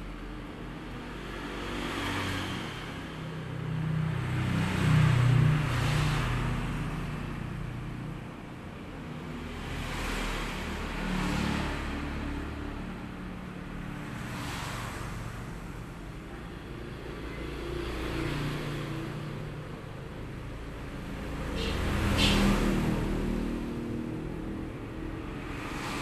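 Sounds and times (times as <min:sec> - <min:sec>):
passing traffic: 0:00.0 - 0:26.0.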